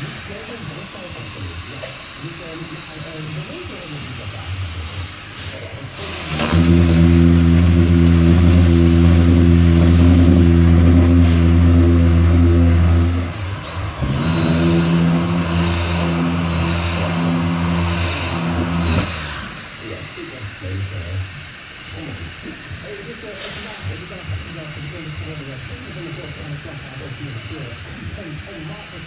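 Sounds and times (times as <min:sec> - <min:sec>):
machine sander running: 0:00.0 - 0:29.0.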